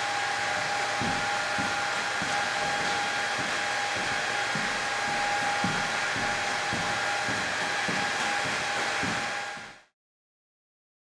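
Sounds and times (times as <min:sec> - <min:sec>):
small fan motor whirring: 0:00.0 - 0:09.9.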